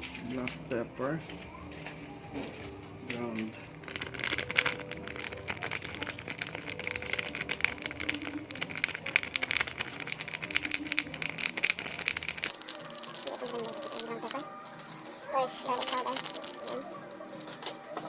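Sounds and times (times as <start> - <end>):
pepper crackling clicks: 2.4 - 18.0.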